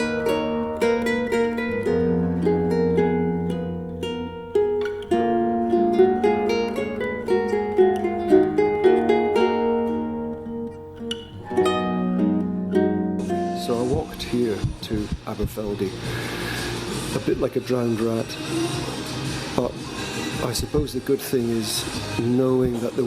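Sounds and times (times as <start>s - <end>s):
plucked string instrument: 0.0s - 23.0s.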